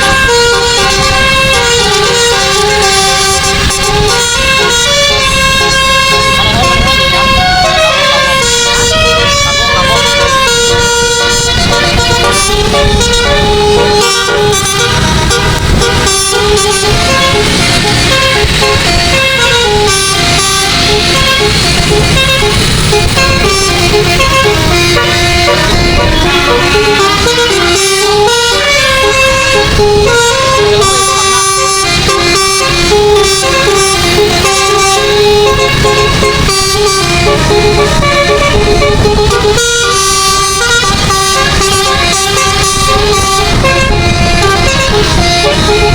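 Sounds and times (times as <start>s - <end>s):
low vehicle noise: 0.0s - 45.9s
musical air horn melody: 0.0s - 45.9s.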